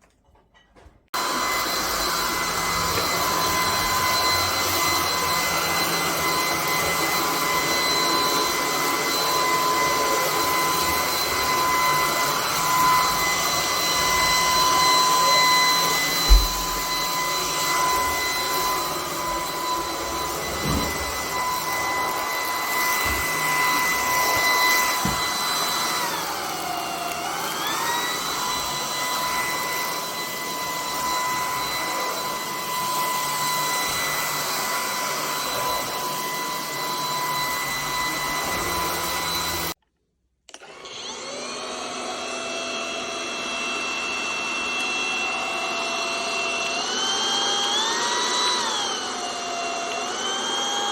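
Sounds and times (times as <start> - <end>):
stick vacuum motor whine: 1.2 - 39.8, 40.5 - 50.9.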